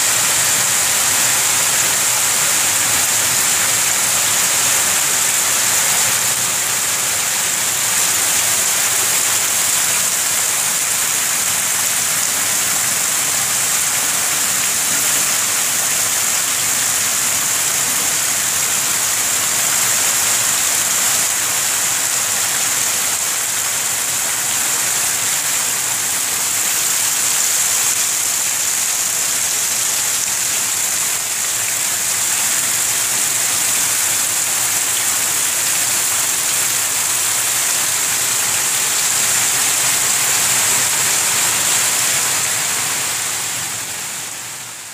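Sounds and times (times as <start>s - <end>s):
heavy rain on floodwater: 0.0s - 44.9s.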